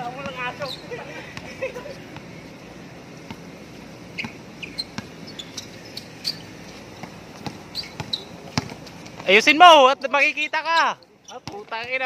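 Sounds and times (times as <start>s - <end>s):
shoes squeaking on court: 0.0s - 12.0s.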